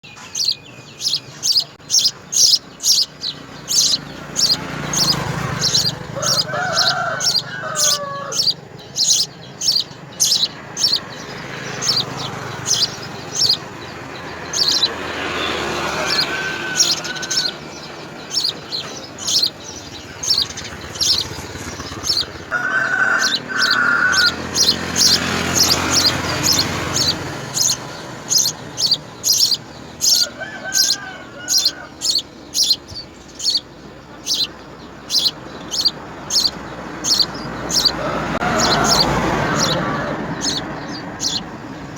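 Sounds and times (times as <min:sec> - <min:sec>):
lower longer bird calls: 0:00.0 - 0:41.8
young birds chirping: 0:00.0 - 0:41.9.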